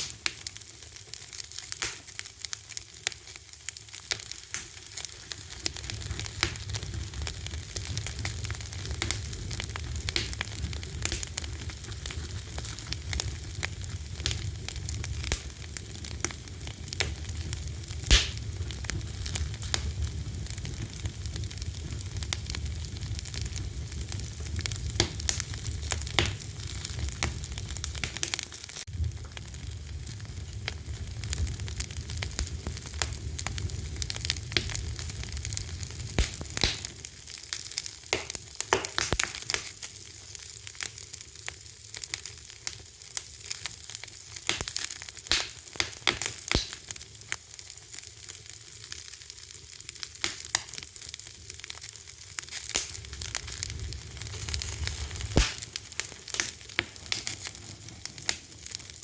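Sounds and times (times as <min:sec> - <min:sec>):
low rumble of flame: 0:00.0 - 0:47.4, 0:48.0 - 0:59.0
wood fire crackling and popping: 0:00.0 - 0:59.0.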